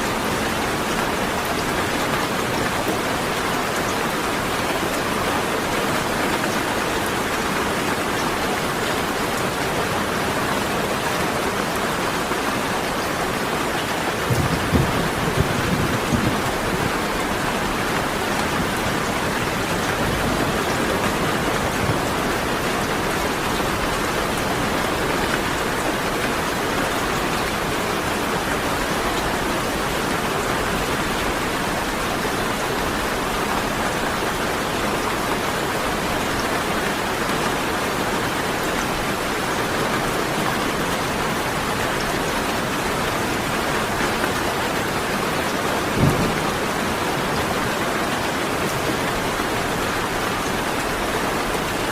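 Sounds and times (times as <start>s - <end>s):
dense rainfall: 0.0s - 51.9s.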